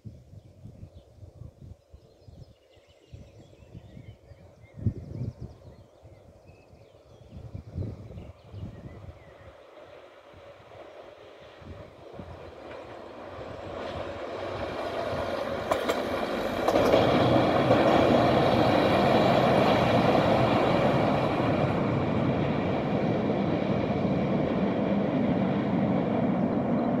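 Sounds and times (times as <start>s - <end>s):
railcar engine and wheels rumbling: 0.0s - 27.0s.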